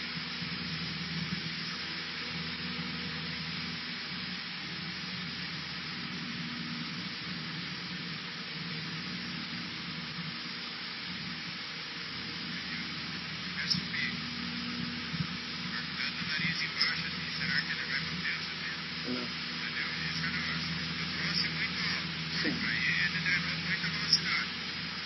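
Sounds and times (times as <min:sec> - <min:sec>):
propeller plane engine drone: 0:00.0 - 0:25.0
rush of air noise: 0:00.0 - 0:25.0.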